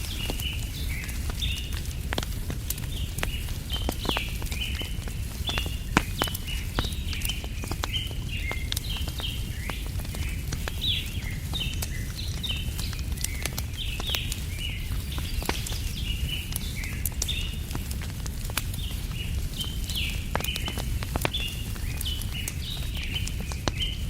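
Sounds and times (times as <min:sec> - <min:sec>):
birds chirping: 0:00.0 - 0:24.0
campfire crackling and popping: 0:00.0 - 0:24.0.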